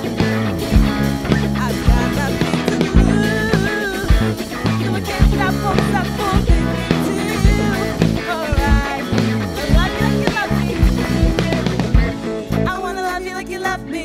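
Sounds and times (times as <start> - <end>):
drum kit beat: 0.0 - 13.7
bass guitar: 0.0 - 14.0
electric guitars: 0.0 - 14.0
person singing: 0.0 - 14.0.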